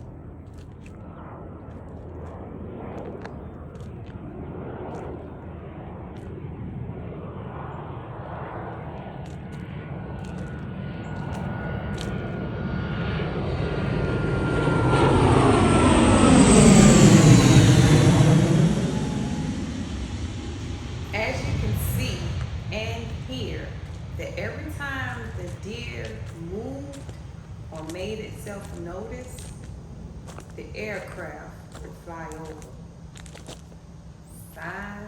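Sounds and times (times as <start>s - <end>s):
airplane engine drone: 0.0s - 35.0s.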